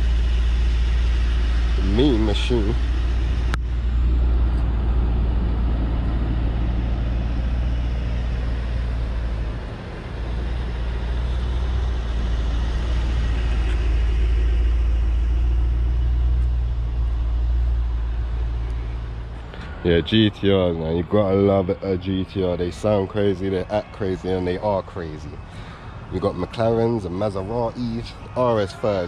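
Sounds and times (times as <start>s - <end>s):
car engine deep rumble: 0.0s - 29.0s.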